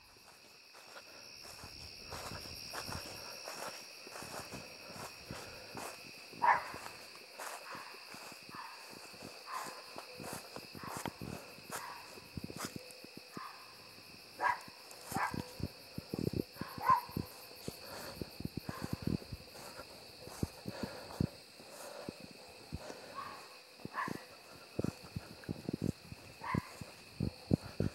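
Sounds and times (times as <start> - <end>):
crickets chirring: 0.0 - 27.9.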